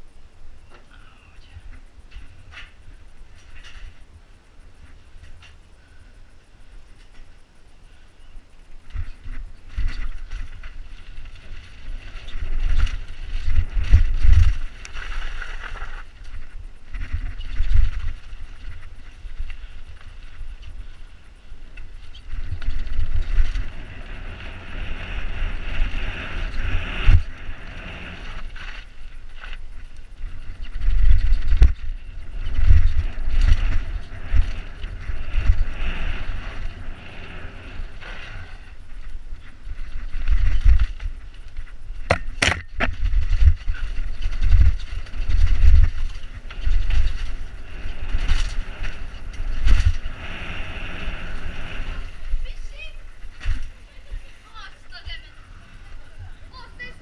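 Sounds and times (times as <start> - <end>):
bike rattling over bumps: 8.7 - 57.0
wind buffeting microphone: 8.7 - 57.0
bike tyres crunching on gravel: 8.9 - 57.0.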